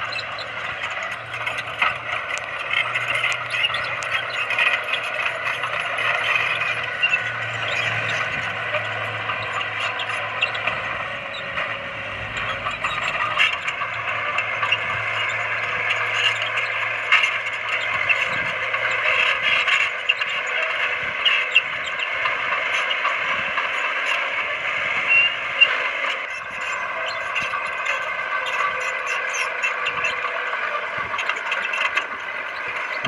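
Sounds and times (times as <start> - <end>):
bulldozer engine: 0.0 - 33.0.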